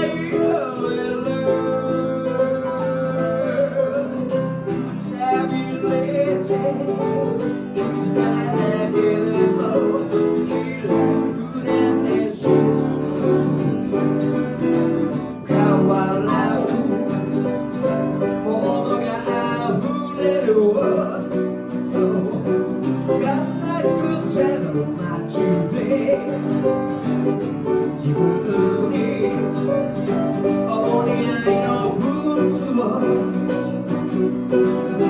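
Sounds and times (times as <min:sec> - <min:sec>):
guitar-led band instrumental: 0:00.0 - 0:35.0.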